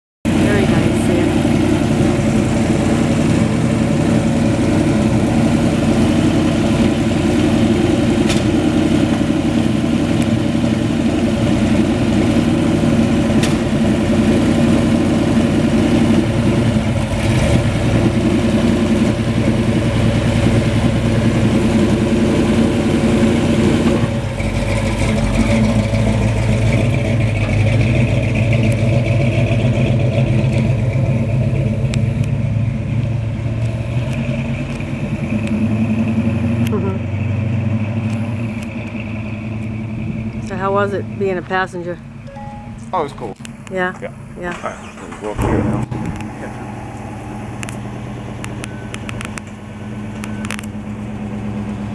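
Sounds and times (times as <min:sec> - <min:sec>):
car engine idling loudly: 0:00.3 - 0:42.2, 0:43.4 - 0:51.9.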